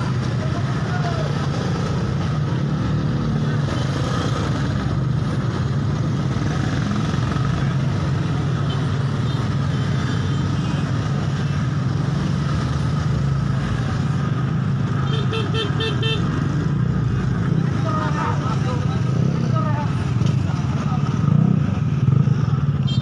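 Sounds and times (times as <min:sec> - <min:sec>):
traffic engines running: 0:00.0 - 0:23.0.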